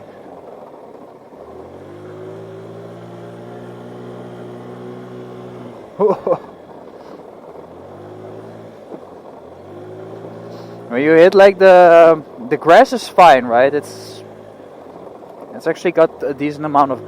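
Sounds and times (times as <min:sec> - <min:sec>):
scooter engine revving: 0:01.4 - 0:17.0.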